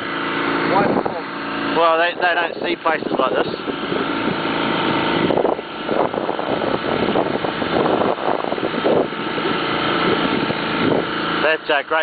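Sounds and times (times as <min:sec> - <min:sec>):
small boat engine running: 0:00.0 - 0:12.0
water noise: 0:00.0 - 0:12.0
wind: 0:00.0 - 0:12.0.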